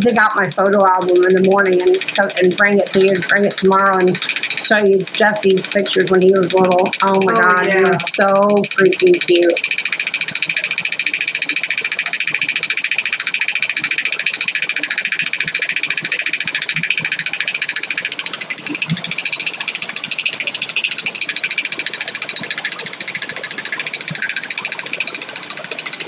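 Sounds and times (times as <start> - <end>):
electric vibrating tool buzzing: 0.9 - 26.0.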